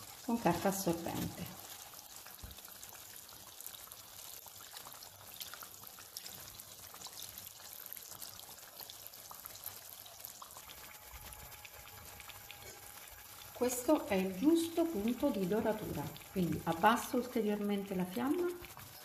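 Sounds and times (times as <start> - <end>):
dough sizzling in hot oil: 0.0 - 19.0.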